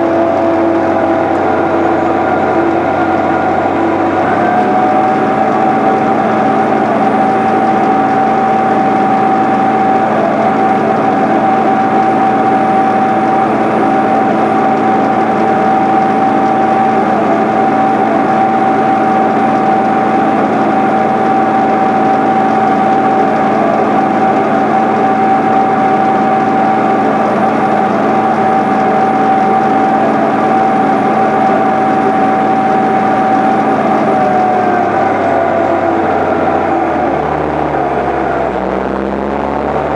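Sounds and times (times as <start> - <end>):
constant whine: 0.0 - 39.9
tractor diesel engine running: 0.0 - 39.9.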